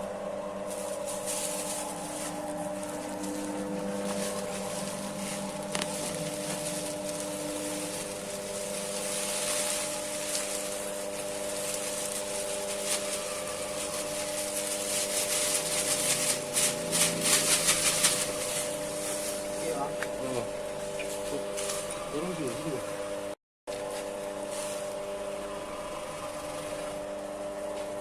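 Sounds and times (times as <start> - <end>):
motor humming: 0.0 - 28.0.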